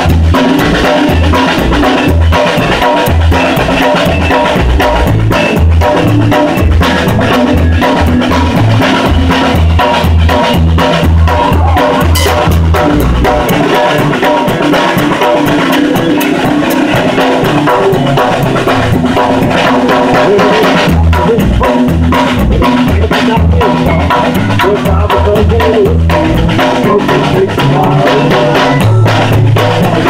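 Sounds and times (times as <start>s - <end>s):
drums and cymbals: 0.0s - 30.0s
live band playing: 0.0s - 30.0s
low bass notes: 0.0s - 30.0s.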